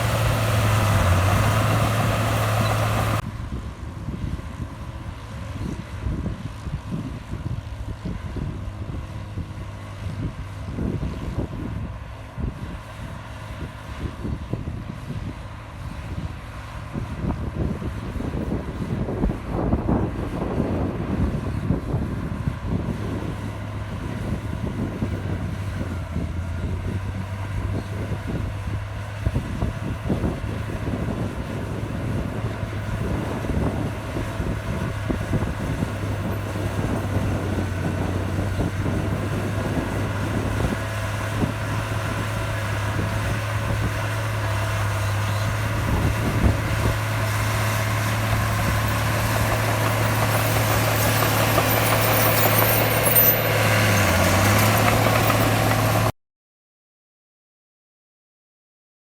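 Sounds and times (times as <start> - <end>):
heavy diesel engine running: 0.0 - 56.1.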